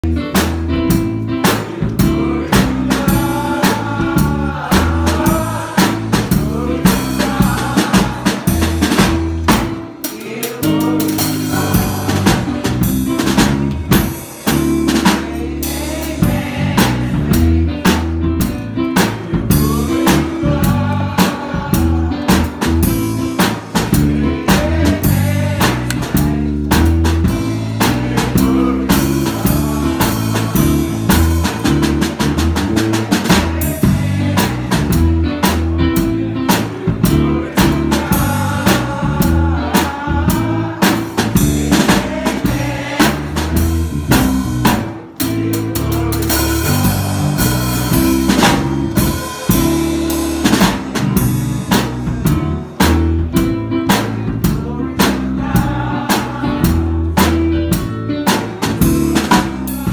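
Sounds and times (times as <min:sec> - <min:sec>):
bass line: 0:00.0 - 0:10.0, 0:10.6 - 0:59.9
drum kit beat: 0:00.0 - 0:59.9
gospel band music: 0:00.0 - 0:59.9.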